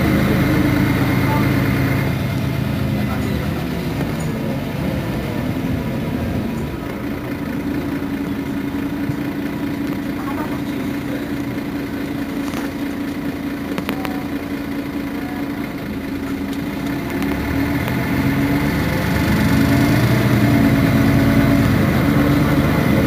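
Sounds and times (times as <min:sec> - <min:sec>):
bus diesel engine humming: 0:00.0 - 0:23.0.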